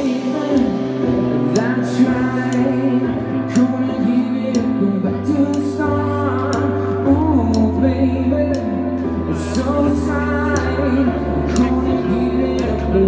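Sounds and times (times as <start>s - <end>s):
bass and beat: 0.0s - 13.0s
person singing: 0.0s - 13.0s
synthesizer keyboards: 0.0s - 13.0s.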